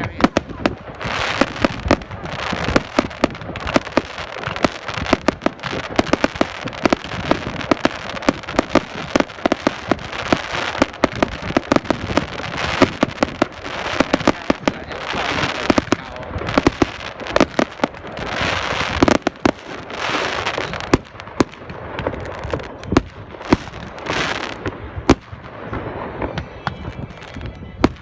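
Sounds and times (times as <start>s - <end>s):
fireworks bangs and pops: 0.0s - 28.0s
fireworks crackle: 0.0s - 28.0s.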